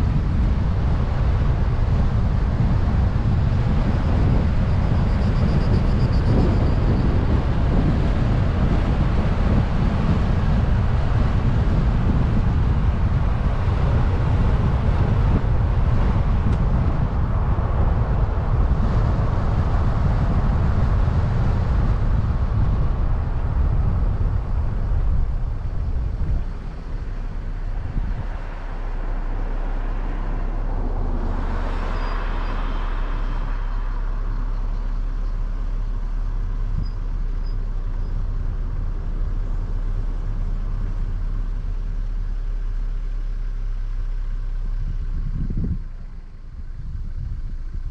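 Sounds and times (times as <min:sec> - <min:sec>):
low engine hum: 0:00.0 - 0:47.9
road and wind noise: 0:00.0 - 0:47.9.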